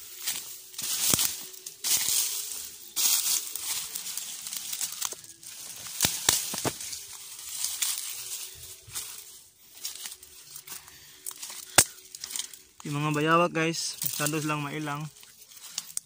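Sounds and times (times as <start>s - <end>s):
twigs snapping: 0.0s - 13.3s, 13.9s - 16.0s
leaves and brush rustling: 0.0s - 16.0s.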